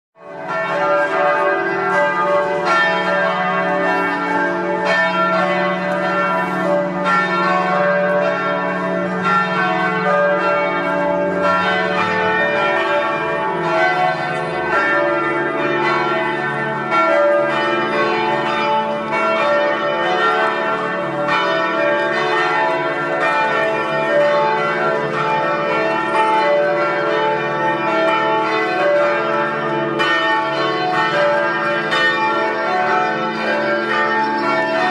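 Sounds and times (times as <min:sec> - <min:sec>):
church bells pealing: 0:00.2 - 0:34.9.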